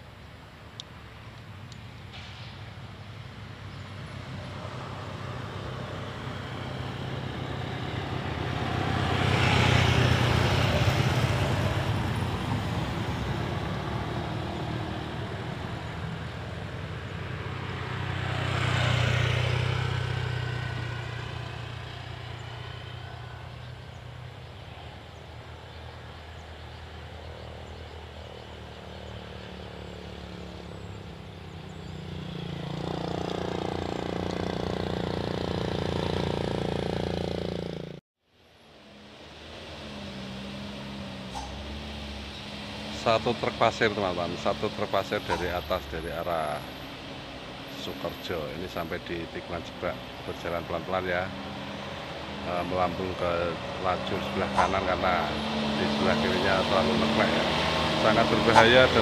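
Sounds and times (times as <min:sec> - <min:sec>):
vehicles passing: 0:00.0 - 0:59.0
car passing: 0:02.2 - 0:59.0.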